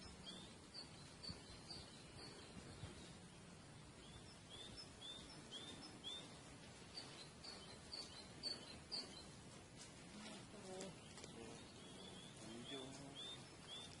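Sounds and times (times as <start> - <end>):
bird chirping: 0.0 - 14.0
outdoor background hiss: 0.0 - 14.0.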